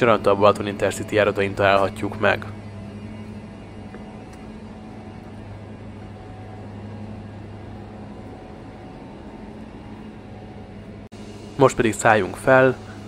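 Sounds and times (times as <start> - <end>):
train low hum with hiss: 0.0 - 13.0.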